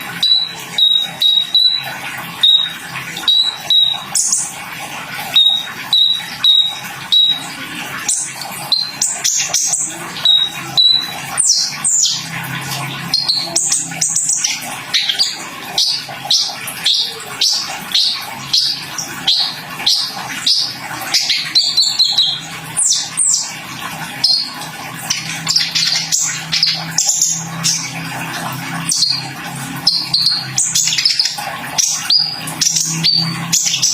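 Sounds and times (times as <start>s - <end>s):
sunbird chirping and singing: 0.2s - 4.5s, 5.3s - 23.5s, 28.7s - 33.9s.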